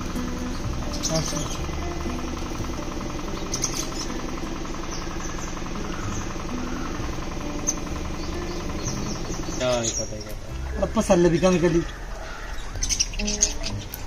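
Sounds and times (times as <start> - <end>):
birds chattering and chirping: 0.0 - 14.0.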